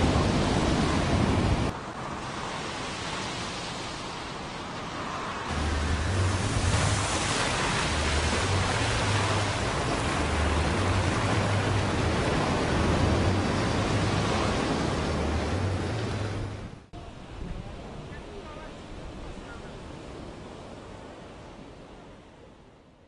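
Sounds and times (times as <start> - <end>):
ocean surf washing on beach: 0.0 - 22.7.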